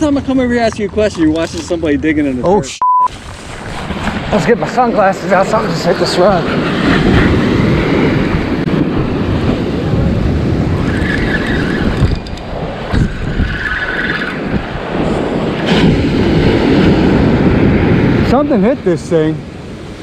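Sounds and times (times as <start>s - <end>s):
surf breaking: 3.1s - 13.1s, 13.8s - 20.0s
wind buffeting microphone: 3.2s - 20.0s.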